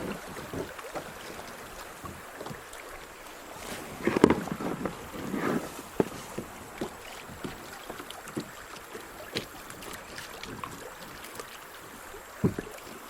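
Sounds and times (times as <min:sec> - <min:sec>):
paddle knocking on hull: 0:00.0 - 0:13.0
water splashing and dripping: 0:00.0 - 0:13.0.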